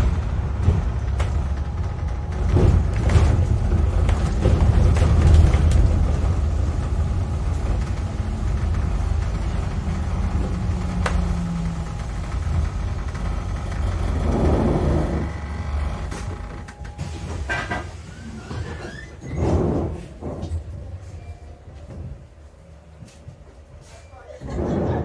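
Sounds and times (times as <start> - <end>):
bus engine low rumble: 0.0 - 25.0.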